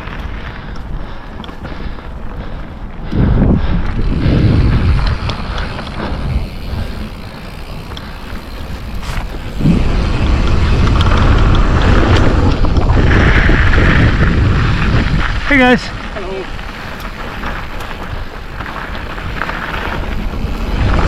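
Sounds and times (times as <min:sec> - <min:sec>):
bike clicks and rattles: 0:00.0 - 0:21.0
bike tyres rumbling over trail: 0:00.0 - 0:21.0
wind buffeting microphone: 0:00.0 - 0:21.0.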